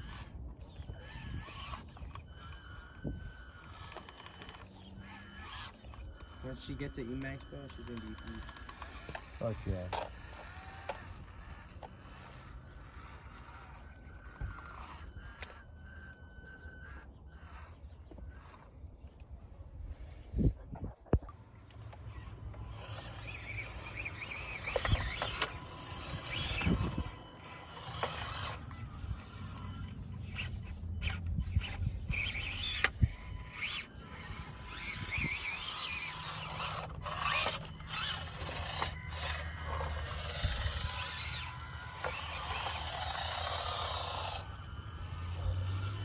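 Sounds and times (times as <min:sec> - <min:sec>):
electric motors whining: 0:00.0 - 0:46.0
tyres scraping on rock: 0:03.4 - 0:19.2, 0:21.1 - 0:46.0.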